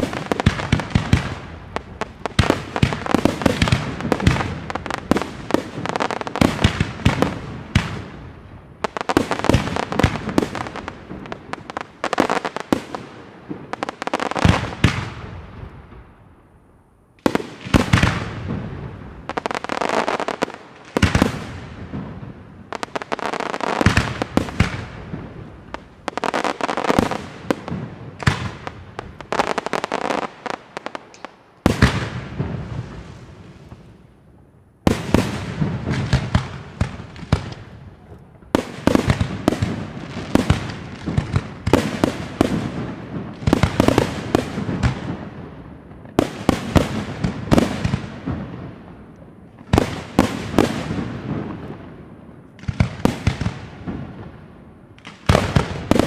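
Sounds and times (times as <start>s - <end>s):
fireworks bursting with crackling: 0.0s - 16.2s, 17.2s - 56.0s.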